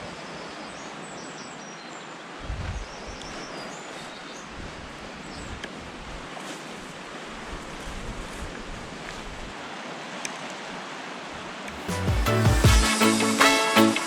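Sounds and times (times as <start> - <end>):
wind: 0.0 - 12.0
sea waves on shore: 2.2 - 14.0.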